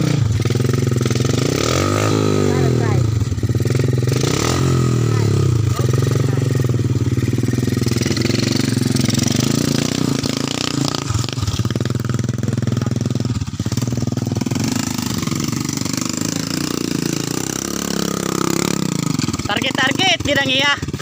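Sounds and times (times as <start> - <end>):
dirt bike engine puttering: 0.0 - 21.0.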